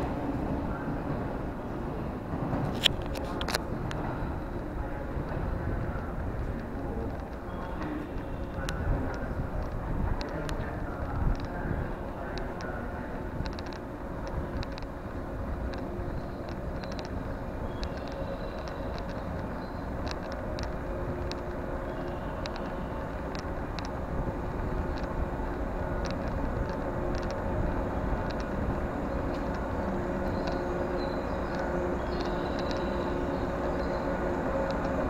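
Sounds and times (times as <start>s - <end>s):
electric train low rumble: 0.0s - 35.0s
two-tone mechanical hum: 0.0s - 35.0s.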